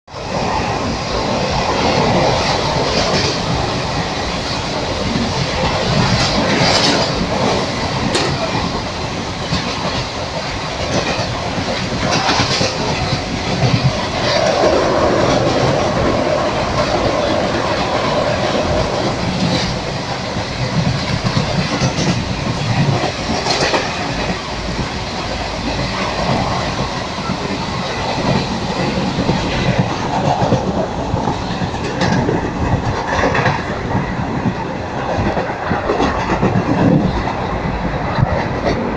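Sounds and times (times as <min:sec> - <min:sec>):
train rumbling on rails: 0:00.1 - 0:38.9.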